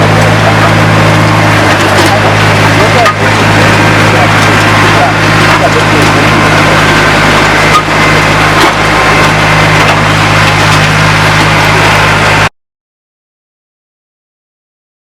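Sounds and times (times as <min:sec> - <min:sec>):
tractor engine running: 0:00.0 - 0:12.5.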